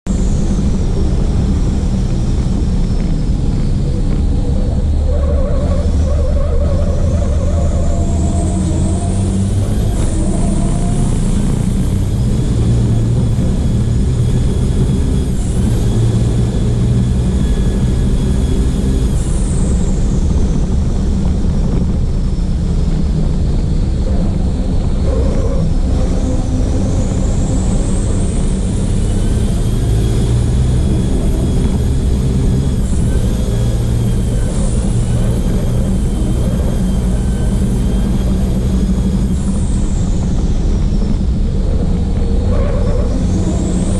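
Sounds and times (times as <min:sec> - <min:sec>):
high turbo whine: 0:00.0 - 0:43.9
truck engine droning: 0:00.0 - 0:43.9.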